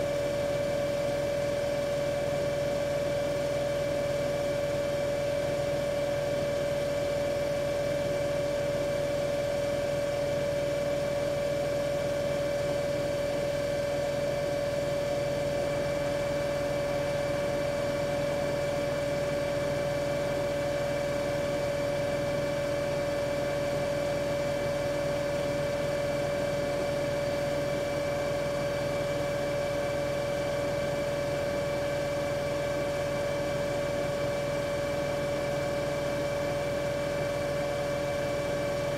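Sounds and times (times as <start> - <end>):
washing machine spinning whine: 0.0 - 38.9.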